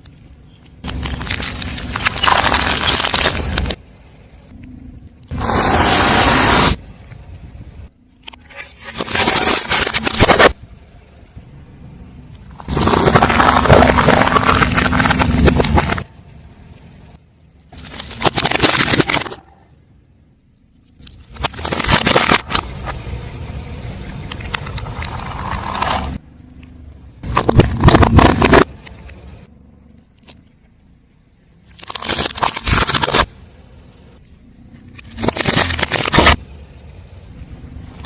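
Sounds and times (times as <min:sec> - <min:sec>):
car tyre crushing crunchy objects: 0:00.0 - 0:04.6, 0:05.3 - 0:10.7, 0:12.2 - 0:16.3, 0:17.1 - 0:19.8, 0:20.8 - 0:38.0
car noise: 0:00.0 - 0:38.0.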